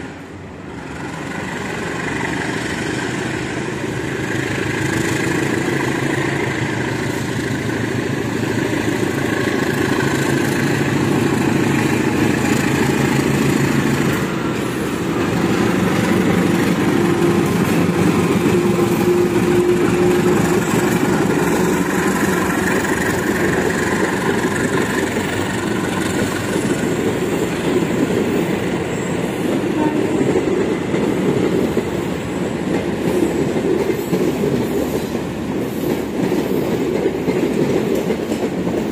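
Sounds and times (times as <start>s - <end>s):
train wheels clattering over rails: 0.8s - 38.9s.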